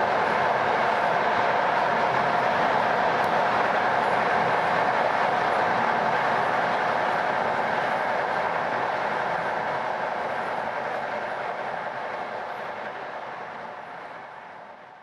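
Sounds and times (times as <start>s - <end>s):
train wheels singing on rails: 0.0s - 15.0s.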